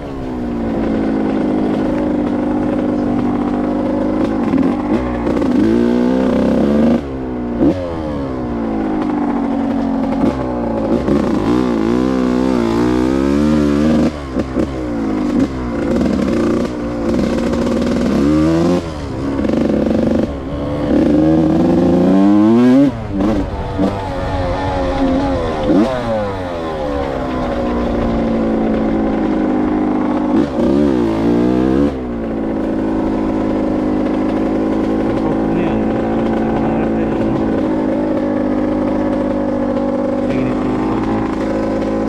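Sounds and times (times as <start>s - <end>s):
two-stroke engine revving: 0.0s - 42.0s.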